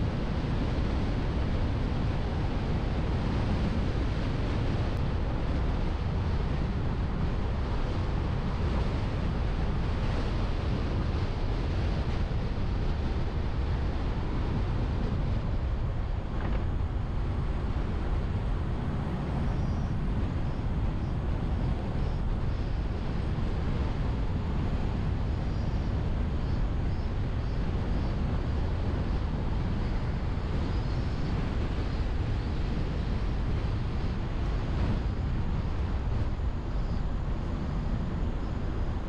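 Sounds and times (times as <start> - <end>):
road and tyre noise: 0.0 - 39.0
wind buffeting microphone: 0.0 - 39.0.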